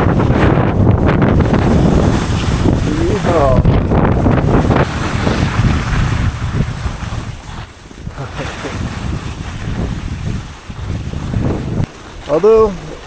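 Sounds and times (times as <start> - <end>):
gusting wind buffeting microphone: 0.0 - 13.0.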